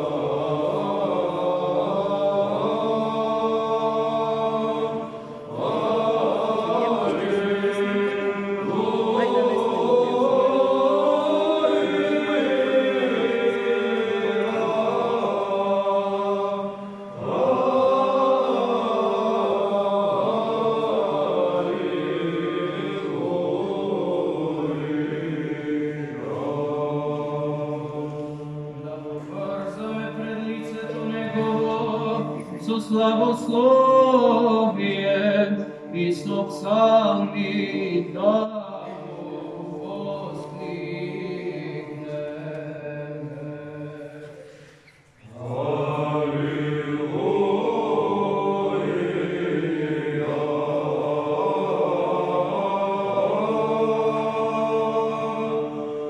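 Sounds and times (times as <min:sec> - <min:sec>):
male choir chanting a cappella: 0:00.0 - 0:56.0.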